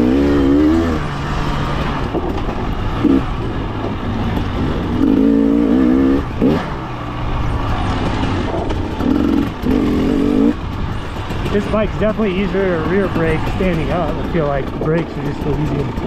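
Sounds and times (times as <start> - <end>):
dirt bike engine revving: 0.0 - 16.0
steady rushing noise: 0.0 - 16.0.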